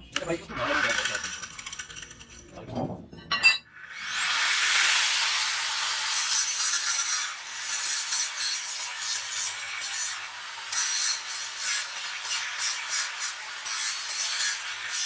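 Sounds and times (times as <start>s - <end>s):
power tool rasping on metal: 0.3s - 2.5s, 4.0s - 15.0s.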